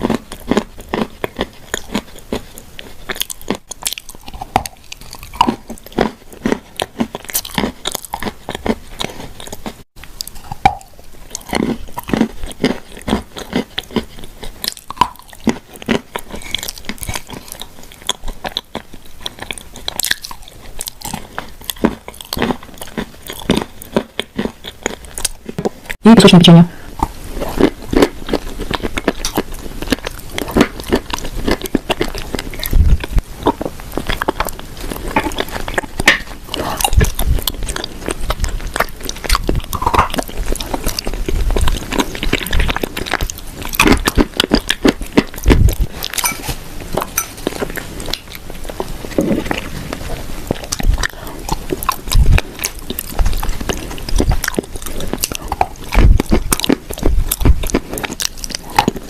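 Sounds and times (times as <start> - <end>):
chewing crunchy food: 0.0 - 59.0
wet mouth sounds: 0.0 - 59.0.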